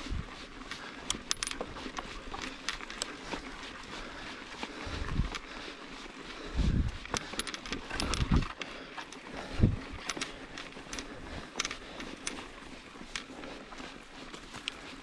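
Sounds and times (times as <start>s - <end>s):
bike clicking and rattling: 0.1s - 15.0s.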